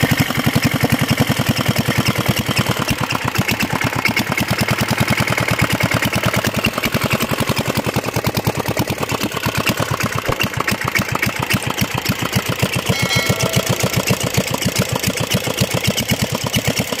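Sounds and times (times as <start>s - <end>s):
single-cylinder engine running: 0.0s - 17.0s.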